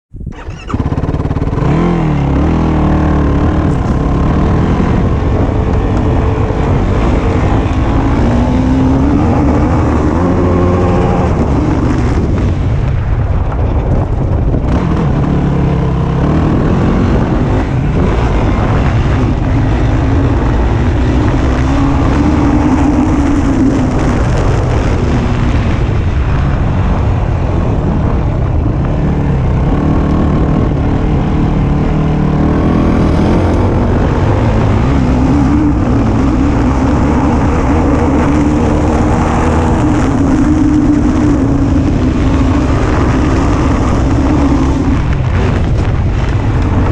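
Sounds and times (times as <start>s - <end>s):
quad bike engine revving: 0.2s - 46.9s.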